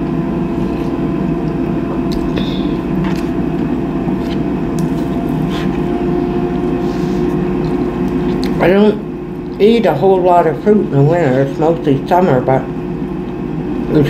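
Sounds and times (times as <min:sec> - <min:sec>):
appliance motor humming: 0:00.0 - 0:14.0.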